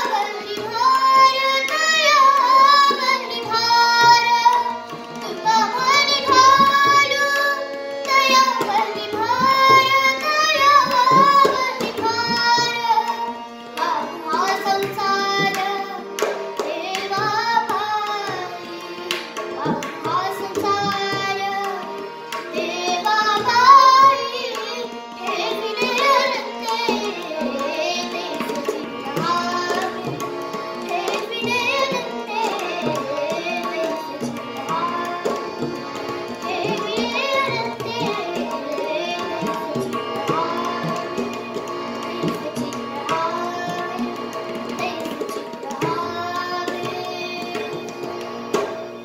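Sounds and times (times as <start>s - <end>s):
girl singing: 0.0s - 49.0s
harmonium holding notes: 0.0s - 49.0s
tabla: 0.0s - 49.0s.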